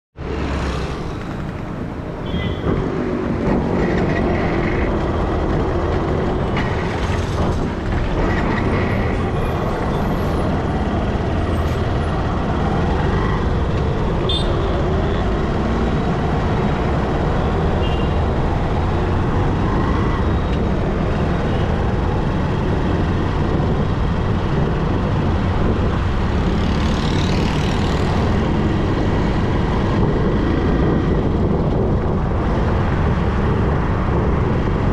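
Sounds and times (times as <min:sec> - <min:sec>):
motorcycle engine and road noise: 0:00.2 - 0:34.9
vehicles passing: 0:00.2 - 0:34.9.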